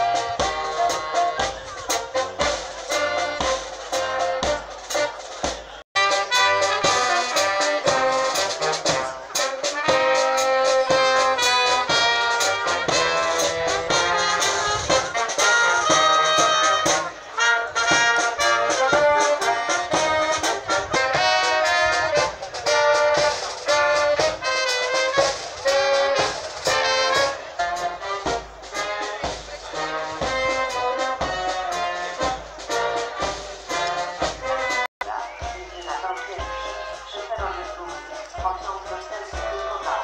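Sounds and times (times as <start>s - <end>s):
brass band playing: 0.0s - 40.0s.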